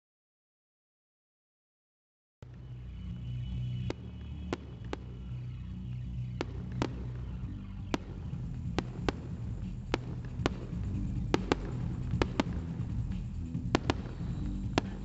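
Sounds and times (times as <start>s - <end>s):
low rumble: 2.4s - 15.0s
fireworks bangs: 2.5s - 15.0s.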